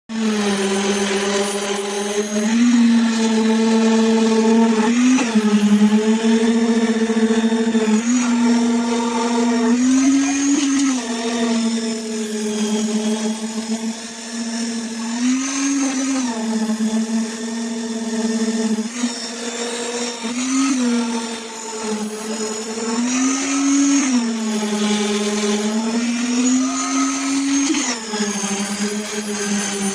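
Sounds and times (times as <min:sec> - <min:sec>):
motor high whine: 0:00.1 - 0:29.9.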